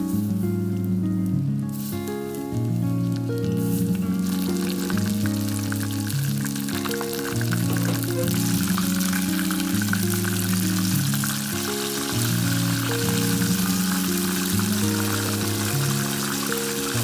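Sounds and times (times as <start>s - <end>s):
background music: 0.0s - 17.0s
deep-frying sizzle with crackles: 0.0s - 17.0s.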